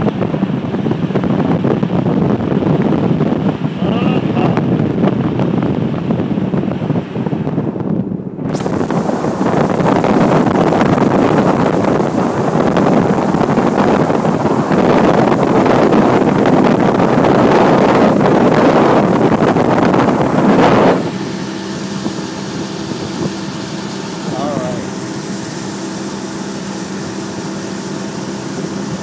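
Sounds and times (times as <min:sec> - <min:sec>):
boat motor running: 0:00.0 - 0:29.0
wind noise on microphone: 0:00.0 - 0:29.0.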